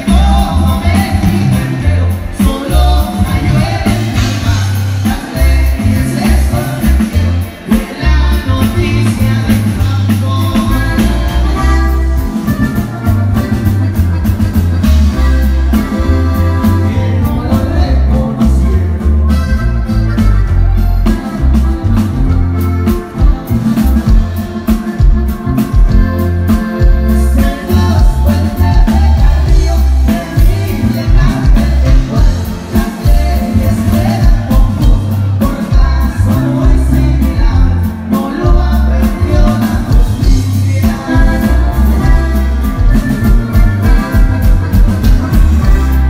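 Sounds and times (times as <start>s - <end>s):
accordion melody: 0.0s - 46.0s
drums: 0.0s - 46.0s
electric bass: 0.0s - 46.0s
guitar: 0.0s - 46.0s.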